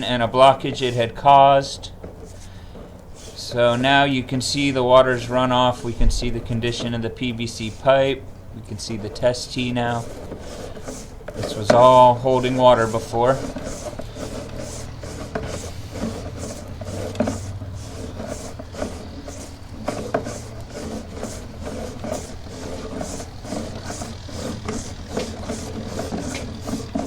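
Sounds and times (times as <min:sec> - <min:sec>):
cable rubbing and clicking: 0:00.0 - 0:27.0.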